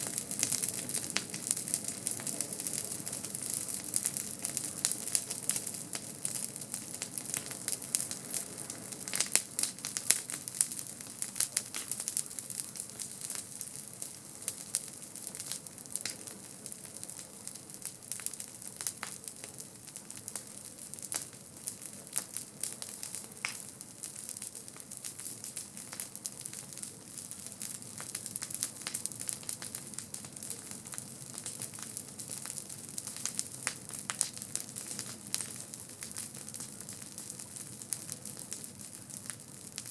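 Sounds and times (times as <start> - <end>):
campfire crackling and popping: 0.0 - 39.9
fire hissing: 0.0 - 39.9.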